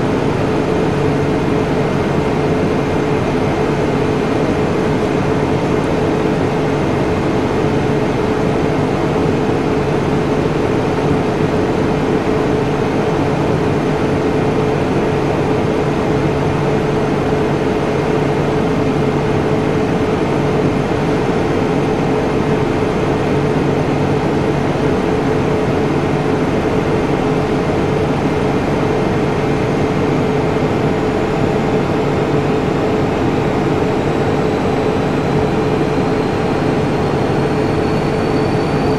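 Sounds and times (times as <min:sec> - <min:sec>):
mechanical hum: 0:00.0 - 0:38.9.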